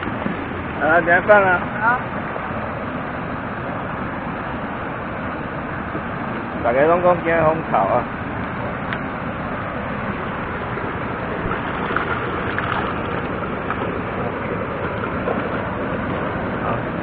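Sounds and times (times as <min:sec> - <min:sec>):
stream water rushing: 0:00.0 - 0:17.0
wind buffeting microphone: 0:00.0 - 0:17.0.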